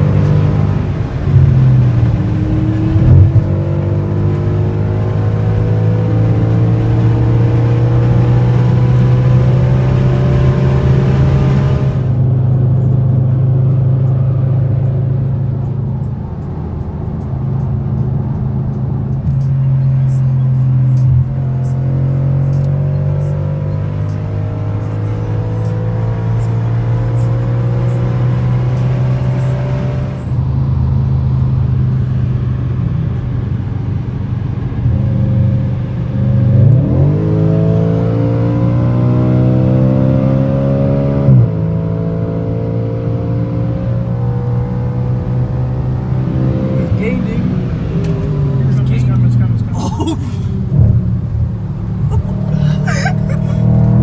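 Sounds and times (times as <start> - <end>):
car engine accelerating hard: 0.0 - 16.2, 16.8 - 54.0.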